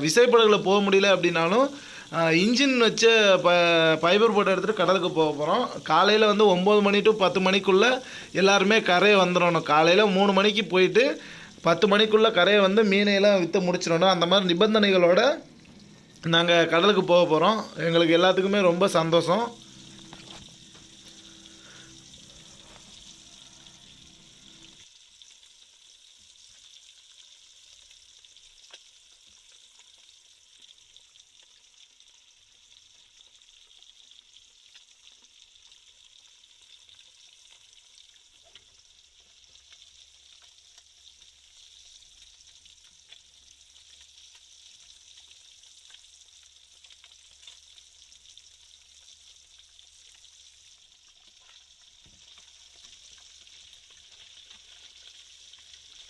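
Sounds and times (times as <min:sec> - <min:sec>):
fish sizzling in hot oil: 0:00.0 - 0:56.0
oil popping and crackling: 0:00.0 - 0:56.0.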